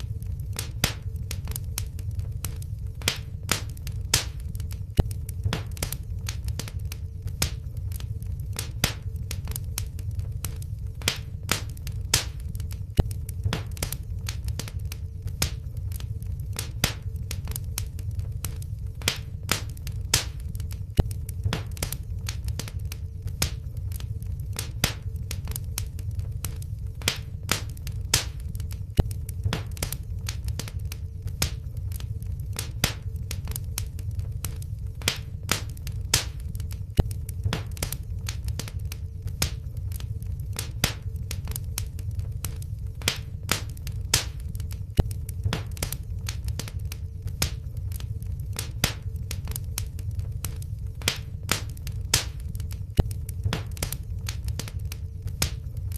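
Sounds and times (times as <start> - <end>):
faint steady hum: 0.0 - 55.9
low rumble of flames: 0.0 - 55.9
wood fire crackling and popping: 0.0 - 55.9.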